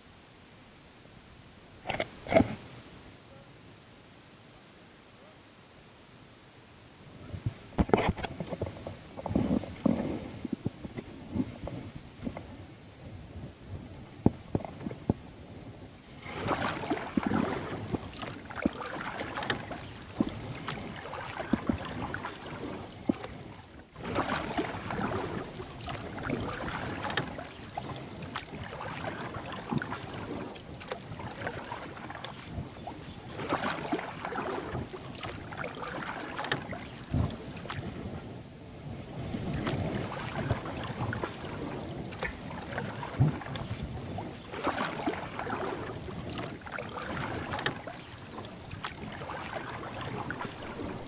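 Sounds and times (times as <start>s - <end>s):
paddle strokes: 1.8s - 2.8s, 7.4s - 12.6s, 16.0s - 51.0s
water splashing against boat: 1.8s - 2.8s, 7.3s - 12.7s, 13.3s - 51.0s.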